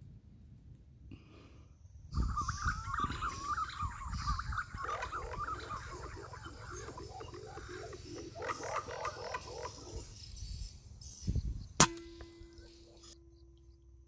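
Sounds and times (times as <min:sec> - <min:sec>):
birds chirping chorus: 0:01.1 - 0:13.9
low bird call notes: 0:02.1 - 0:13.9.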